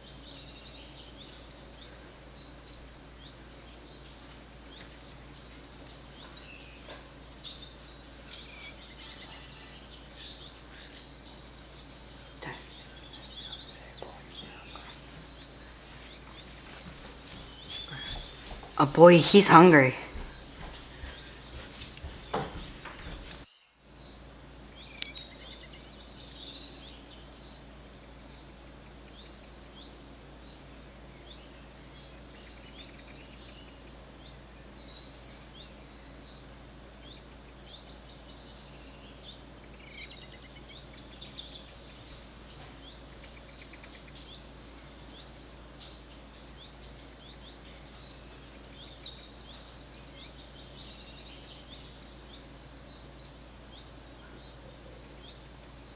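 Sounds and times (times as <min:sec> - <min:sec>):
bird chirps: 0:00.0 - 0:55.9
high insect drone: 0:00.0 - 0:55.9.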